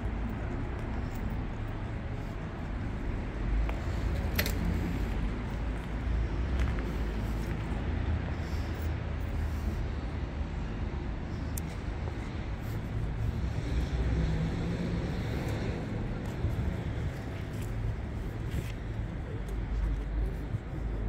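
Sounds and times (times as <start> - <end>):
steady low street rumble: 0.0 - 21.0.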